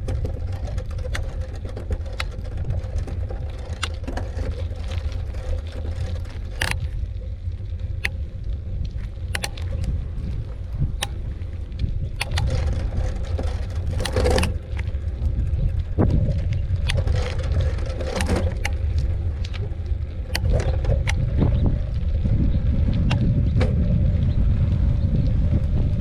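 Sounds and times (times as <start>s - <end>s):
bicycle clicking and rattling: 0.0s - 26.0s
wind rumbling on microphone: 0.0s - 26.0s.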